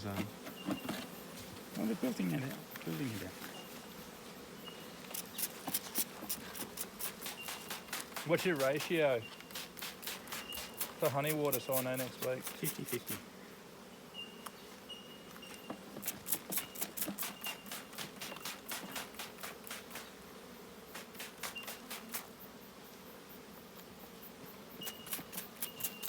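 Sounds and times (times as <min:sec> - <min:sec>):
honeybees humming: 0:00.0 - 0:26.0.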